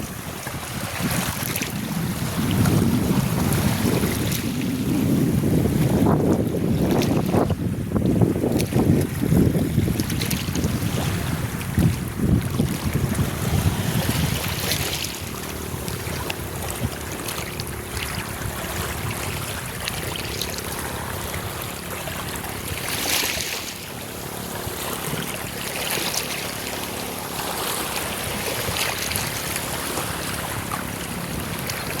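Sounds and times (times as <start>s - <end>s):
sea waves lapping: 0.0s - 32.0s
wind rumbling on microphone: 0.0s - 32.0s.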